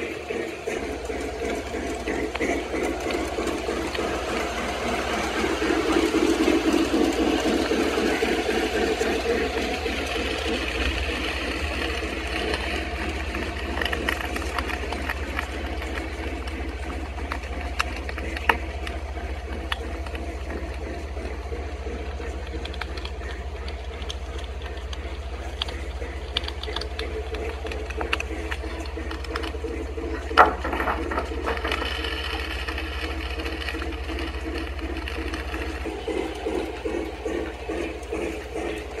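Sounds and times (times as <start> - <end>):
model train whir and rattle: 0.0 - 39.0.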